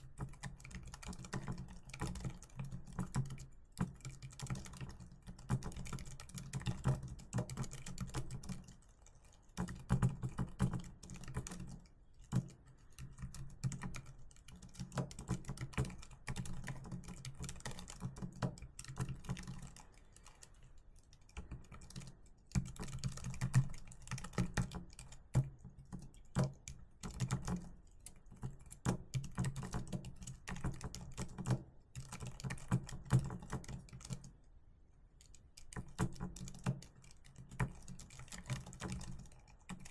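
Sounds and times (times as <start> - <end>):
fast typing on computer keyboard: 0.0 - 34.3, 35.2 - 39.9.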